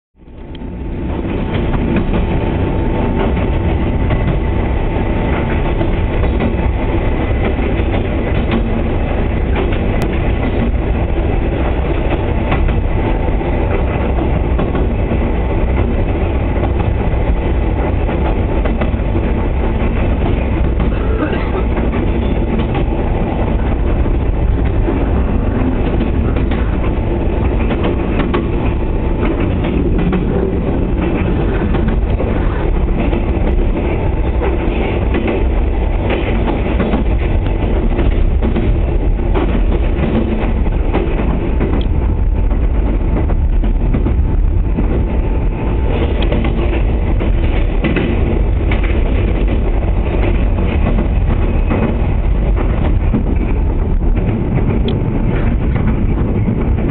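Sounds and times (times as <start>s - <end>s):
train rumbling through tunnel: 0.2s - 56.9s.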